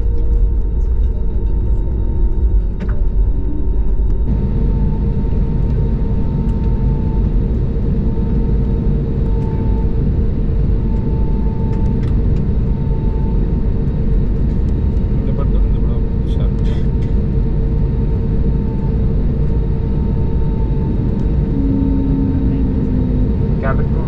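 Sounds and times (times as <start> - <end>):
airplane cabin rumble: 0.0 - 24.0
faint wavering whine: 0.0 - 24.0.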